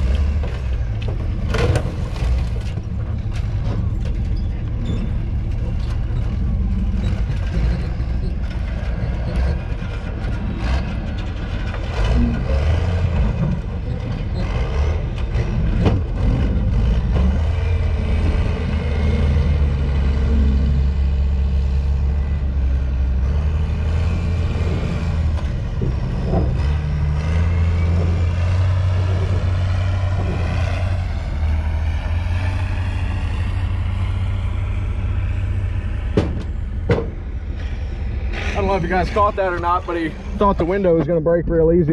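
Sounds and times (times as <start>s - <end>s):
heavy machine engine running: 0.0s - 41.9s.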